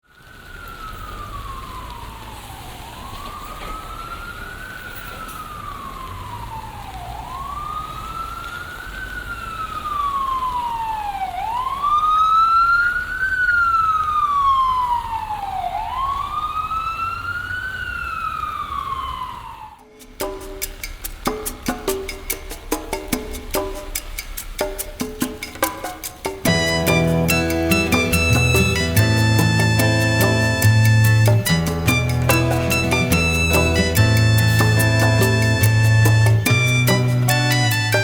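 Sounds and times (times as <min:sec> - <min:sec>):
emergency vehicle siren wailing: 0:00.0 - 0:19.8, 0:26.5 - 0:38.0
low street noise: 0:00.1 - 0:38.0.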